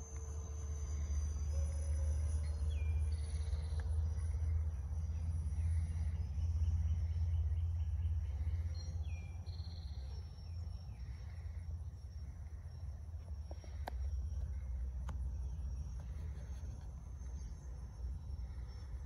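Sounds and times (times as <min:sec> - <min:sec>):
faint high steady whine: 0:00.0 - 0:19.0.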